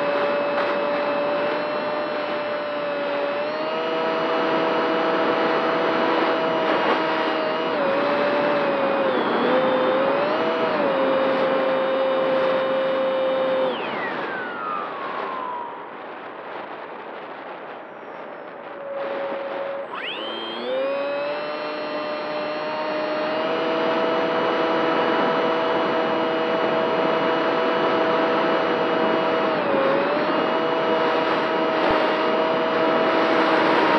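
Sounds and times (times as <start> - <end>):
model airplane motor whine: 0.0 - 15.9, 18.6 - 33.9.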